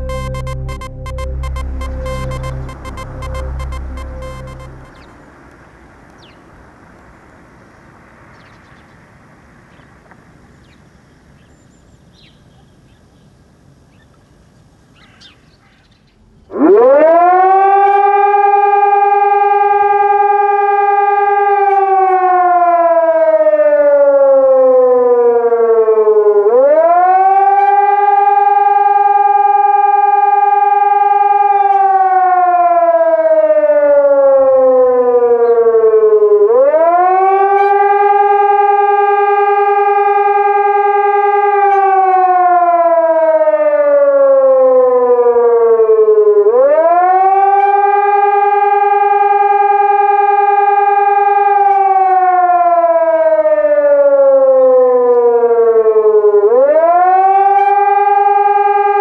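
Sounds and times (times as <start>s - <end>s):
siren wailing: 0.0s - 5.3s, 16.5s - 59.0s.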